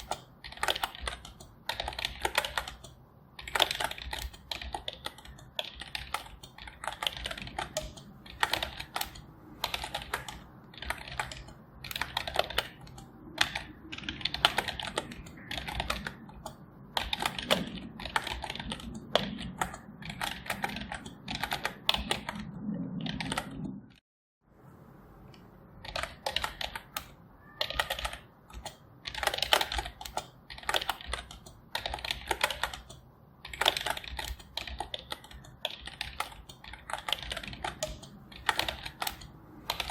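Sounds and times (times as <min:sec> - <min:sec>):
typing on computer keyboard: 0:00.0 - 0:24.0, 0:25.8 - 0:39.9.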